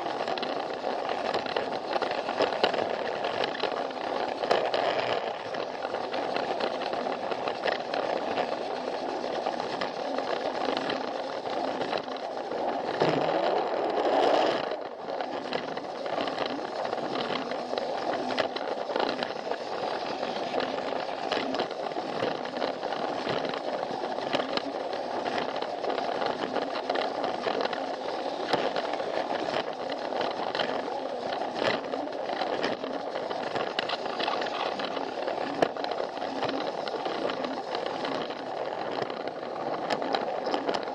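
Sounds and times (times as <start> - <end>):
toy train motor whirring: 0.0 - 40.9
wheels clicking over track joints: 0.0 - 40.9.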